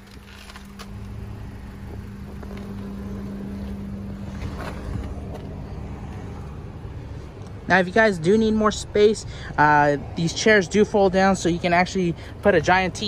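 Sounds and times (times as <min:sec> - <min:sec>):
vehicle idling hum: 0:00.0 - 0:13.0.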